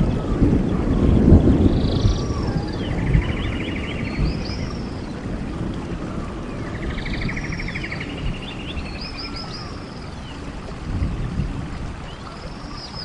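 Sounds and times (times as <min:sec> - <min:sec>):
songbirds calling: 0:00.0 - 0:13.0.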